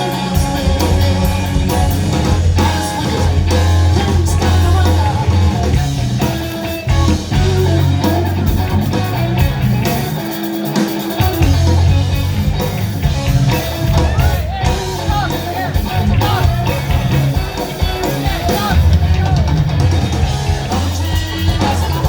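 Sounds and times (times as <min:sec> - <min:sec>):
blues band playing: 0:00.0 - 0:22.0
electric guitar with bent notes: 0:00.0 - 0:22.0.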